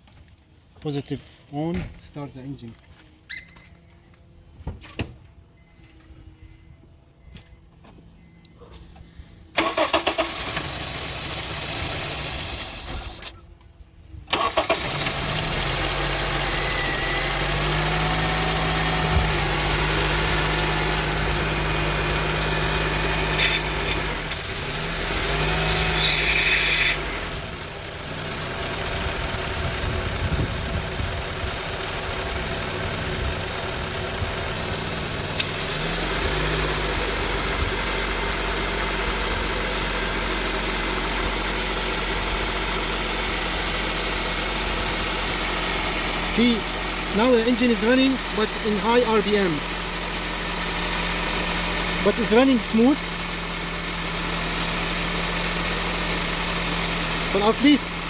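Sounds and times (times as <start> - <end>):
car engine starting and idling: 7.2 - 58.0.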